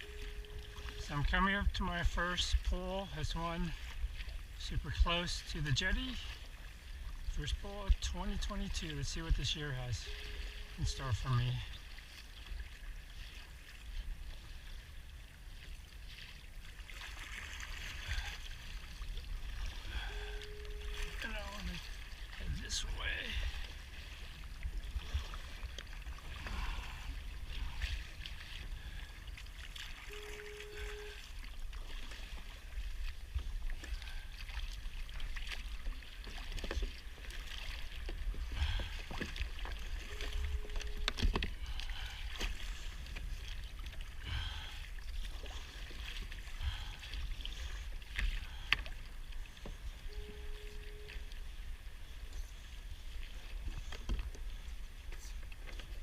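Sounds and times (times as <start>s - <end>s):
faint steady tone: 0.0s - 16.4s, 17.0s - 55.9s
paddle splashing in water: 0.0s - 56.0s.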